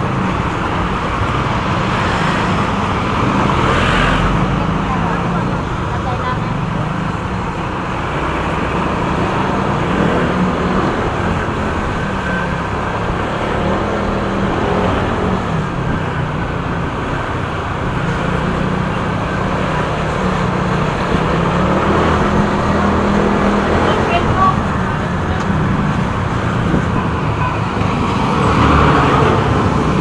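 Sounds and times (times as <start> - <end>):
motorcycle engine humming: 0.0 - 30.0
road and wind noise: 0.0 - 30.0.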